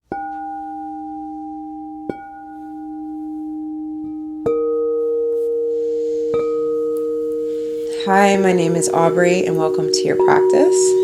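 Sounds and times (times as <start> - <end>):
high-pitched singing bowl ringing: 0.1 - 11.0
low singing bowl ringing: 0.1 - 11.0.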